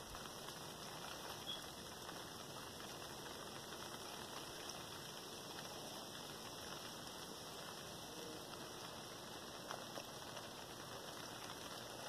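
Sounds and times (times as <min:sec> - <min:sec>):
faint rain hiss: 0:00.0 - 0:12.0
rain drop ticks: 0:00.0 - 0:12.0.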